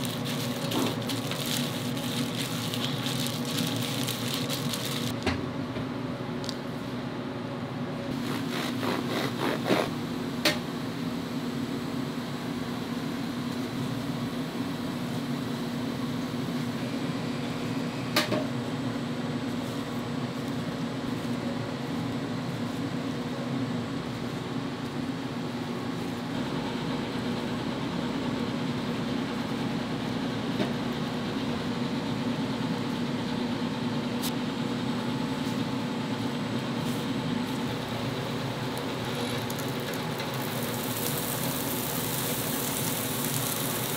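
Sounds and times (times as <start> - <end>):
ventilation fans humming: 0.0 - 43.9.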